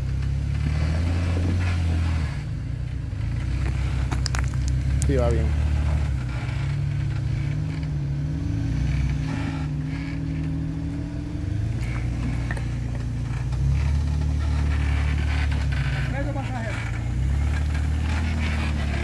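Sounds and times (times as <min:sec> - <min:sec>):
vehicle engine at low speed: 0:00.0 - 0:19.0.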